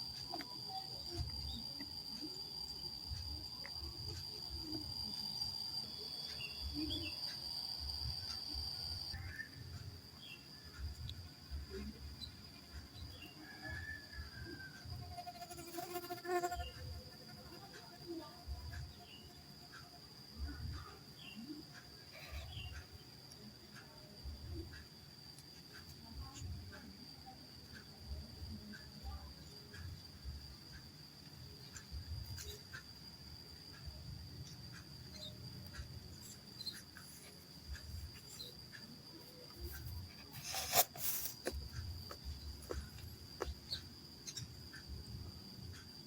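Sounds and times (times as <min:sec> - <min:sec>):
ants ticking and crackling: 0:00.0 - 0:46.0
steady high-pitched whine: 0:00.0 - 0:46.0.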